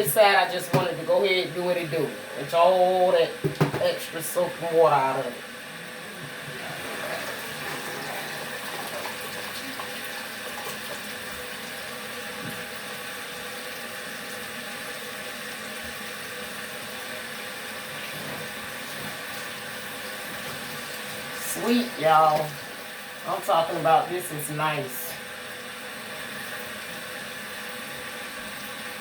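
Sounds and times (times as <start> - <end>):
water rushing in washing machine: 0.0 - 29.0.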